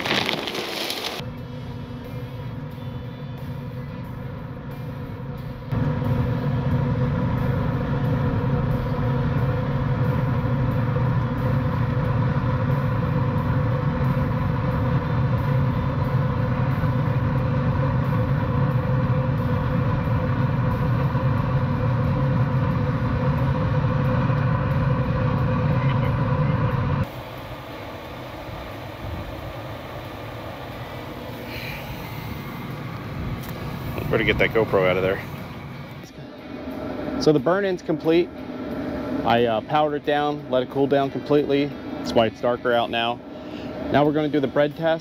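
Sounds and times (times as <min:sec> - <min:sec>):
grill combustion fan humming: 0:00.0 - 0:45.0
low rumble of fire lighting: 0:00.0 - 0:45.0.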